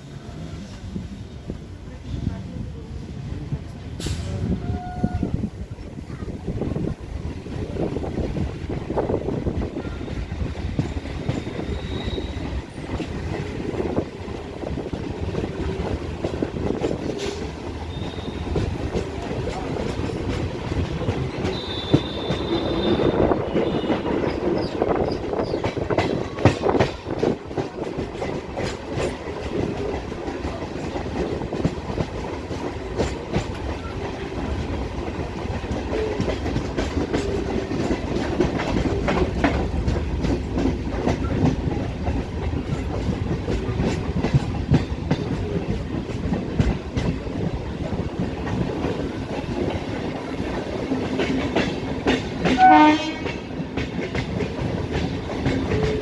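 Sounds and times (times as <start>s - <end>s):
train rumble from inside coach: 0.0s - 56.0s
wheels clacking over rail joints: 6.7s - 56.0s.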